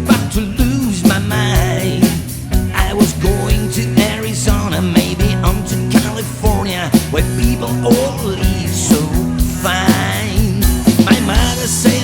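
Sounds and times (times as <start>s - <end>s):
live band playing rock and roll: 0.0s - 12.0s.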